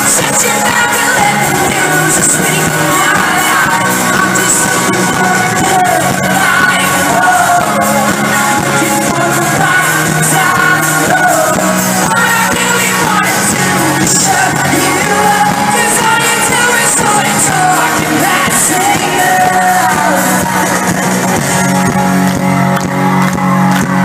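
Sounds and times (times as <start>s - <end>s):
live pop-rock band playing: 0.0s - 24.0s.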